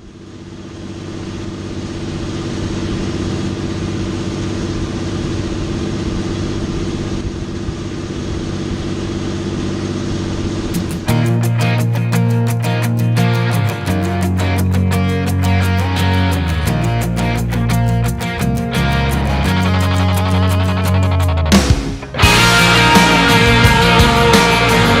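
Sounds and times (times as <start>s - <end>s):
engine humming steadily: 0.0s - 25.0s.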